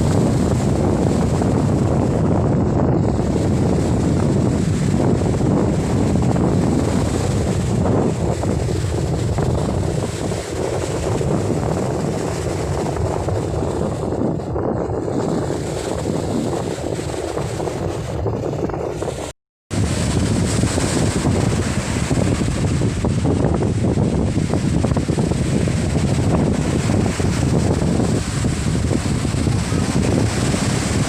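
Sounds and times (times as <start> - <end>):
surf: 0.0 - 31.0
wind blasting the microphone: 0.0 - 31.0.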